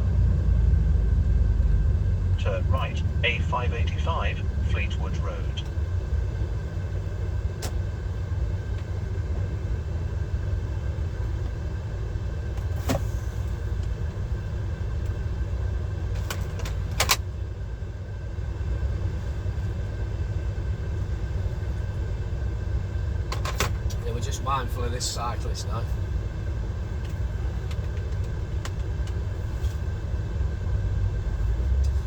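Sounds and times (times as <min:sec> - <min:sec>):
diesel truck engine rumble: 0:00.0 - 0:32.0.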